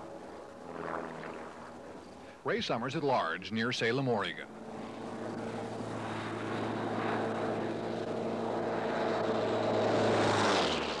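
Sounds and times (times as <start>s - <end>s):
propeller plane engine fly-past: 0.0s - 11.0s.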